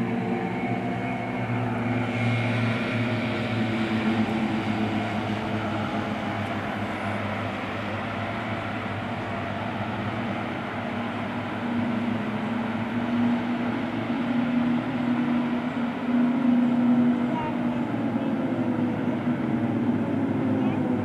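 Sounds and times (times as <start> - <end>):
turboprop planes droning: 0.0 - 21.0.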